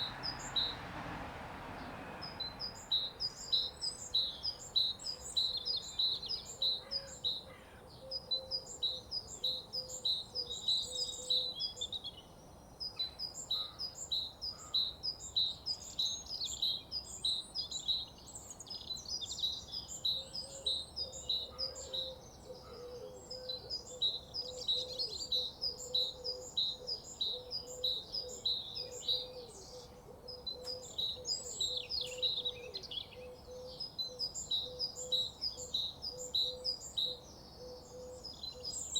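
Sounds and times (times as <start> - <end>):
small birds chirping: 1.8 - 38.9.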